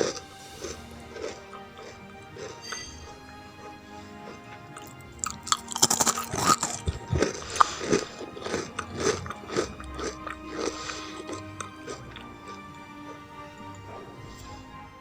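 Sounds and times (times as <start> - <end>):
crunchy snack bitten and chewed: 0.0 - 14.6
background music: 0.0 - 15.0.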